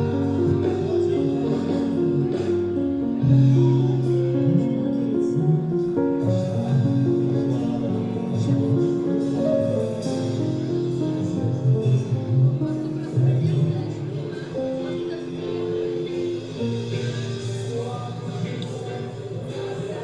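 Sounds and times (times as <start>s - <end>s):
instrumental street music: 0.0s - 20.0s.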